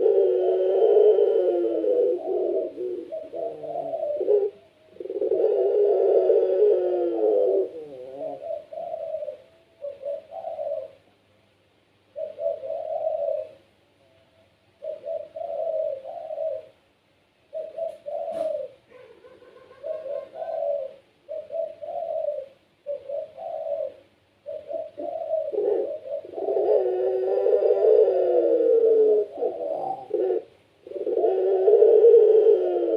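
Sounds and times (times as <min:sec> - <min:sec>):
dove cooing: 0:00.0 - 0:11.2, 0:12.1 - 0:14.1, 0:14.7 - 0:16.8, 0:17.4 - 0:32.9.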